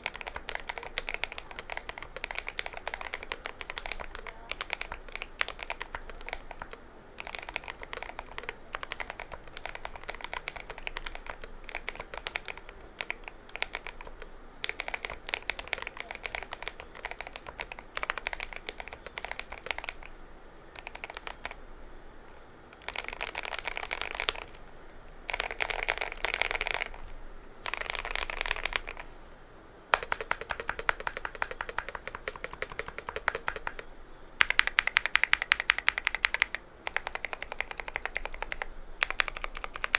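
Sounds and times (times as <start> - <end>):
mechanical keyboard typing: 0.0 - 21.6, 22.2 - 29.2, 29.9 - 39.9.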